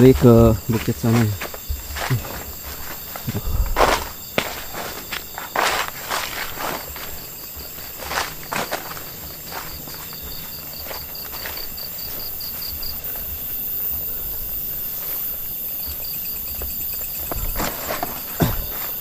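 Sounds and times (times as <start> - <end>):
faint footsteps: 0.0 - 19.0
high-pitched insect drone: 0.0 - 19.0
rhythmic insect chirping: 0.0 - 19.0.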